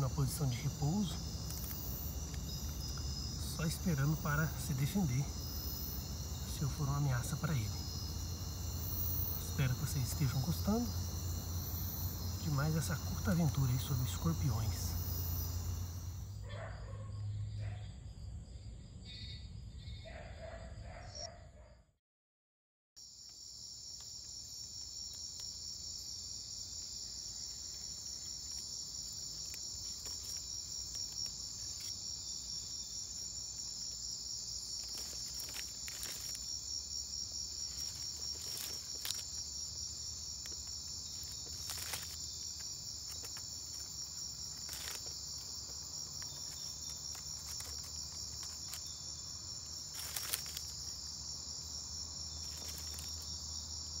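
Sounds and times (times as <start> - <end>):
night insects trilling: 0.0 - 21.8, 23.0 - 54.0.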